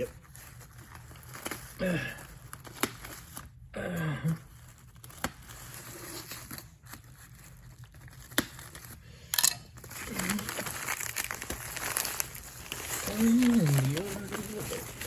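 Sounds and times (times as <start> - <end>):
packaging rustling and crinkling: 0.0 - 3.6, 4.5 - 15.0.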